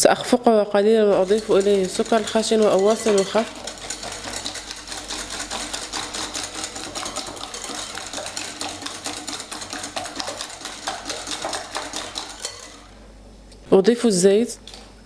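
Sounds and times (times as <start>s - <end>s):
whisk scraping against bowl: 0.0s - 13.2s.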